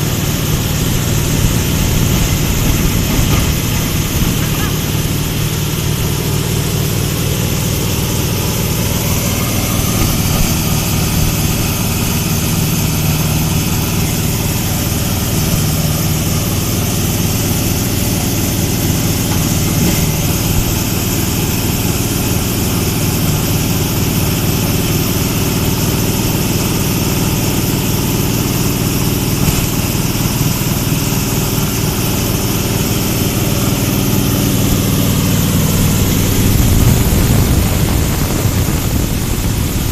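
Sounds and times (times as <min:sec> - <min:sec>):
grinding machine humming: 0:00.0 - 0:39.9.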